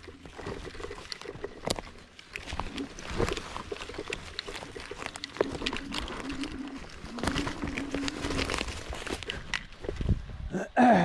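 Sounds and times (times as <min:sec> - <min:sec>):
twigs crackling and snapping: 0:00.0 - 0:10.3.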